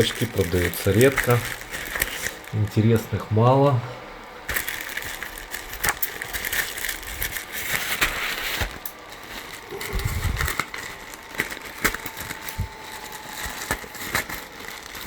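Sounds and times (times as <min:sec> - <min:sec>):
plastic packaging crinkling: 0:00.0 - 0:03.3, 0:04.4 - 0:15.0.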